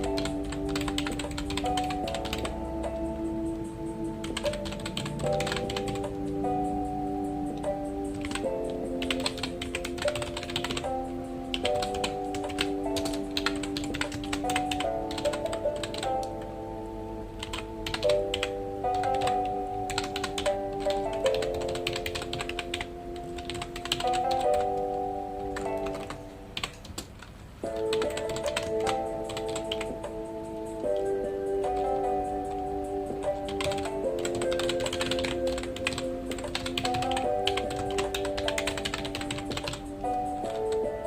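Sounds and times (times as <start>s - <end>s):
computer keyboard typing: 0.0s - 3.3s, 4.1s - 16.5s, 17.4s - 41.0s
soft background music: 0.0s - 41.0s.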